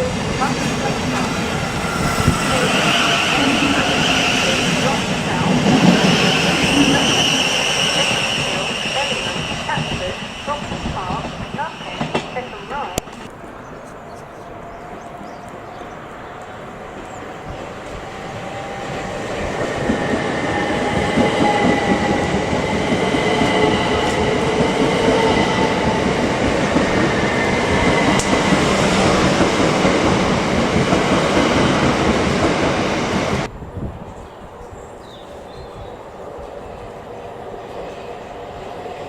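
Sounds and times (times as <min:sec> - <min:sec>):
train running on rails: 0:00.0 - 0:39.0.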